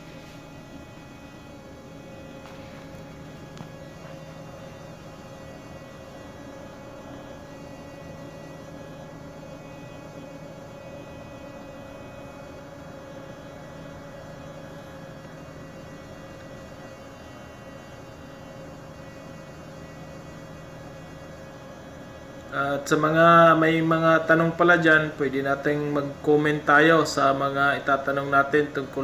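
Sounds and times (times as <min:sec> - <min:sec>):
engine room machinery hum: 0:00.0 - 0:29.0.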